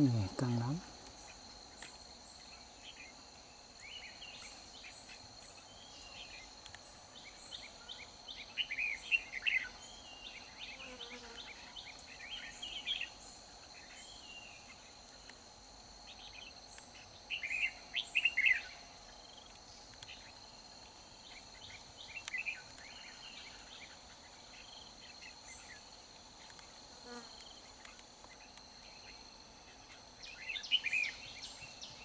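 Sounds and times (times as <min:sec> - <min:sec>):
birds chirping song: 0:00.0 - 0:32.0.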